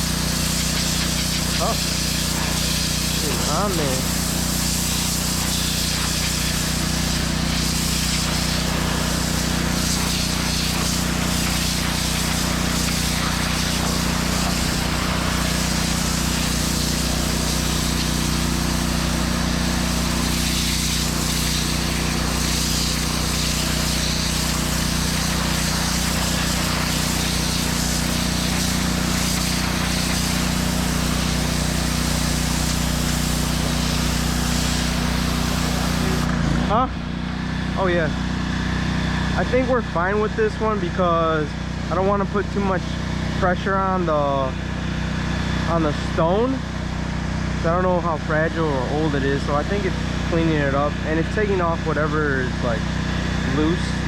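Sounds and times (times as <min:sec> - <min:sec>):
water spray hissing on concrete: 0:00.0 - 0:36.8, 0:37.8 - 0:54.0
pressure washer engine drone: 0:00.0 - 0:54.0.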